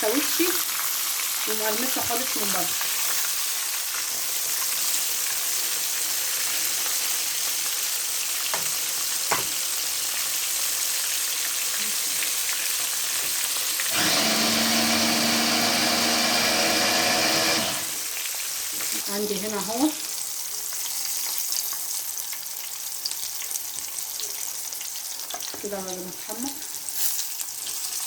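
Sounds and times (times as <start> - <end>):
fish sizzling in hot oil: 0.0 - 13.9, 18.0 - 28.0.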